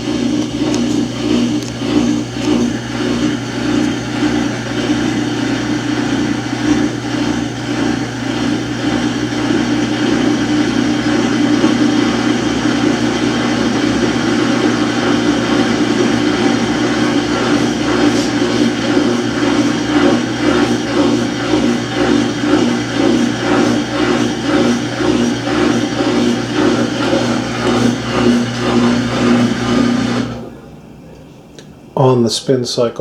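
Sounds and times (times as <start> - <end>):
washing machine humming: 0.0 - 33.0.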